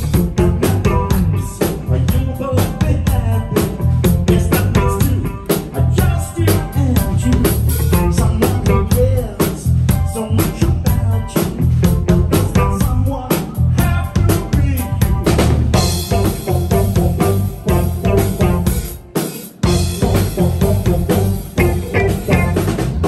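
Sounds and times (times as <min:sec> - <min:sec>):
person singing: 0:00.0 - 0:15.2, 0:15.8 - 0:19.0, 0:19.6 - 0:22.9
bass: 0:00.0 - 0:23.0
drum kit steady beat: 0:00.0 - 0:23.0
guitar: 0:00.0 - 0:23.0.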